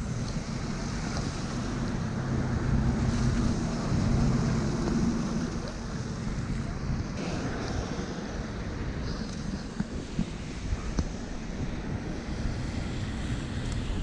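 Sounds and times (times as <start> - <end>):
rain: 0.0 - 14.0
vehicle engine rumble: 0.0 - 14.0
wind noise: 0.0 - 14.0.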